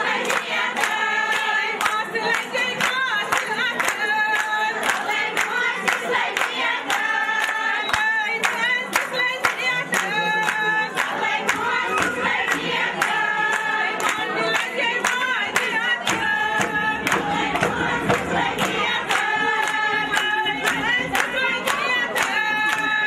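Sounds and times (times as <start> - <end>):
group of voices singing: 0.0 - 23.0
sharp rhythmic strikes: 0.0 - 23.0.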